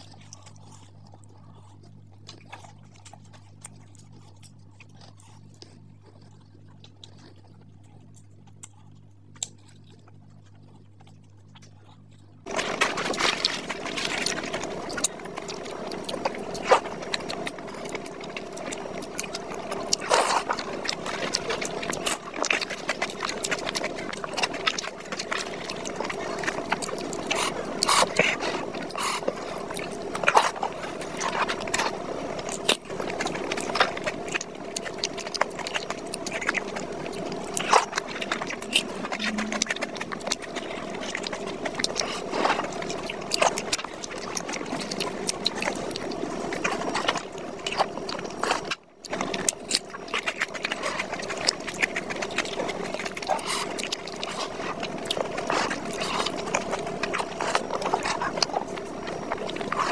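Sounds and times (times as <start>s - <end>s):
chewing and mouth smacks: 0.0s - 59.9s.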